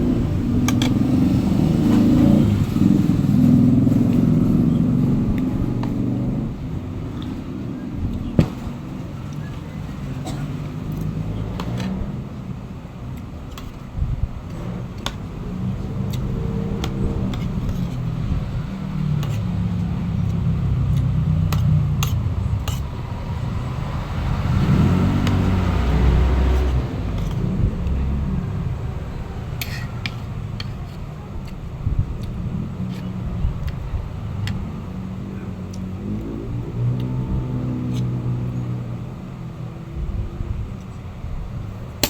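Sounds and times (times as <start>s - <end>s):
road traffic rumble: 0.0s - 42.0s
vehicle passing: 0.0s - 42.0s.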